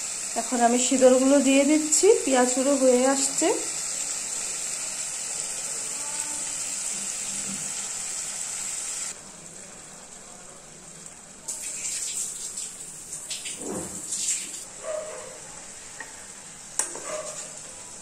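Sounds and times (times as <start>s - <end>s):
masala and fish sizzling: 0.0s - 18.0s.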